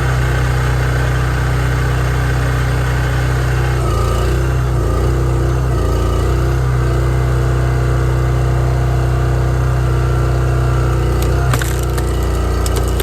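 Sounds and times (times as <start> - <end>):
log splitter engine running: 0.0 - 13.0.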